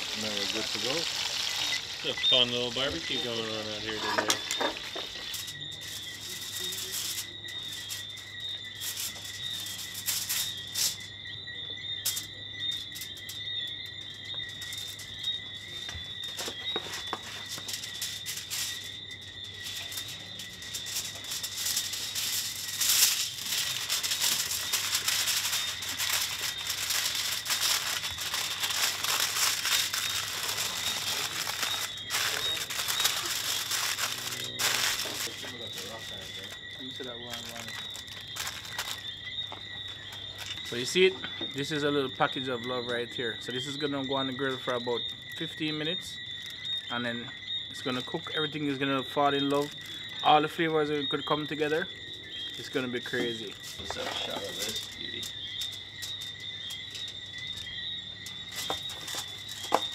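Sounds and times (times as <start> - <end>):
aluminium foil crinkling: 0.0 - 11.1, 12.0 - 45.7, 46.3 - 46.9, 47.8 - 59.9
night insects trilling: 0.0 - 59.9.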